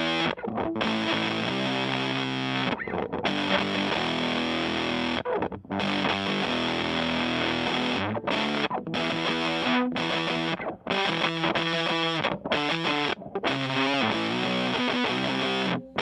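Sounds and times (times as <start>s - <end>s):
fuzzed electric guitar chords: 0.0s - 16.0s.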